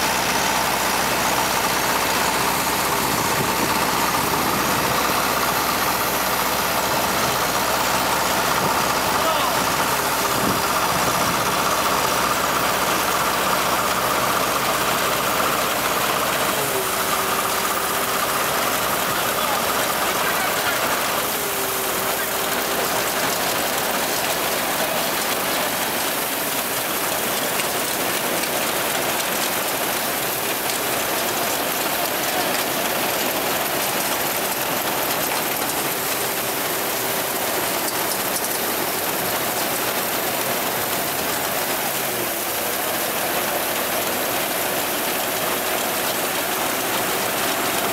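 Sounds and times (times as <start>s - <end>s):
threshing machine clatter: 0.0s - 47.9s.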